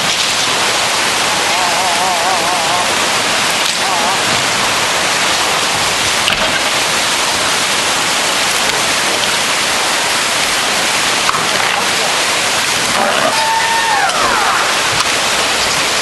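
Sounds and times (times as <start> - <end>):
heavy storm rain: 0.0 - 16.0.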